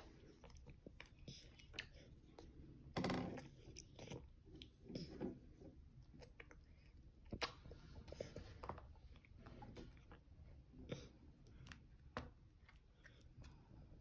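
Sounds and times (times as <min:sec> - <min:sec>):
toddler chewing noodles: 0:00.0 - 0:02.6, 0:03.3 - 0:13.6.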